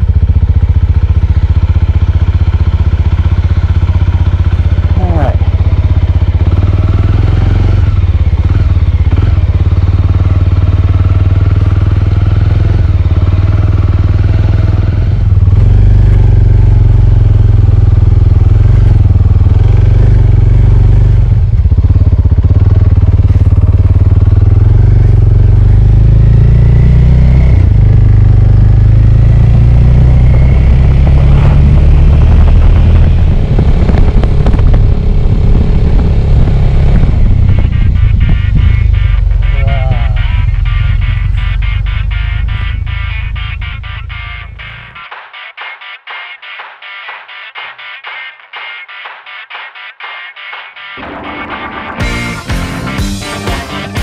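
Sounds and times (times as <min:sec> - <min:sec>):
motorcycle engine running: 0:00.0 - 0:49.7, 0:51.0 - 0:54.0.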